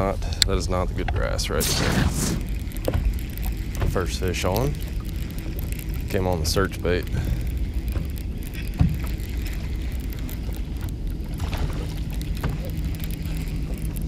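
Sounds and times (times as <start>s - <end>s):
faint steady hum: 0.0s - 14.0s
wind and water rumble: 0.0s - 14.0s
fishing reel clicks and rattles: 2.3s - 14.0s.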